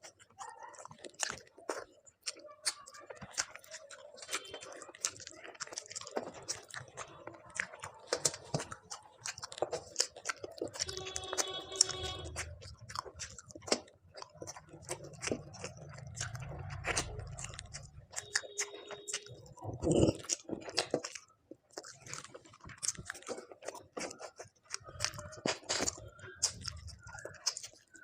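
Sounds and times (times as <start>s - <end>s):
crunching: 0.0s - 28.0s
person chewing food: 0.0s - 28.0s.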